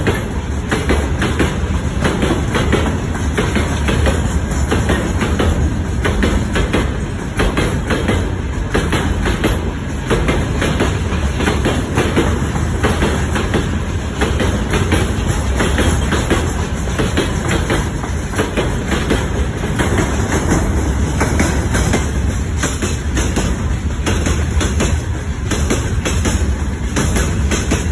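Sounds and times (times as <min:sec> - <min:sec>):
freight train rumble: 0:00.0 - 0:27.9
wheels clattering over rail joints: 0:00.0 - 0:27.9.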